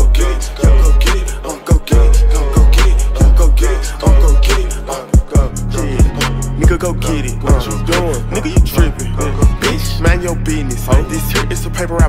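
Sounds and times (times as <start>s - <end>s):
deep bass notes: 0.0s - 12.0s
hip hop beat: 0.0s - 12.0s
person rapping: 0.0s - 12.0s.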